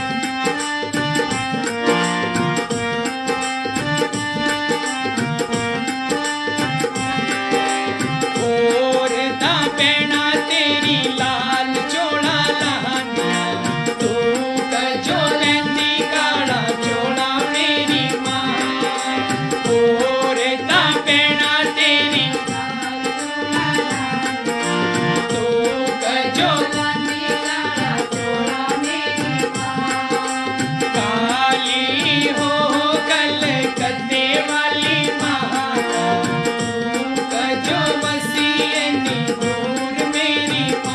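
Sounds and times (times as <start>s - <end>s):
drum accompaniment: 0.0s - 40.9s
harmonium melody: 0.0s - 40.9s
man singing: 0.0s - 40.9s.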